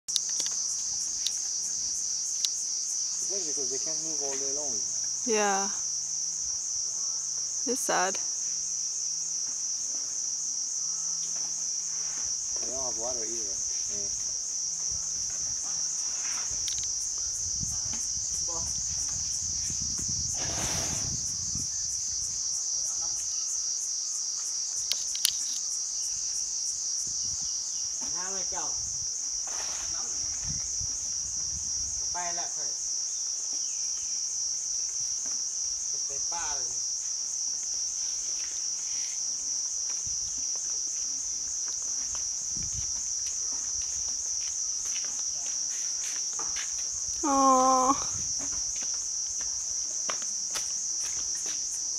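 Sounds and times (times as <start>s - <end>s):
insects shrilling: 0.1s - 49.9s.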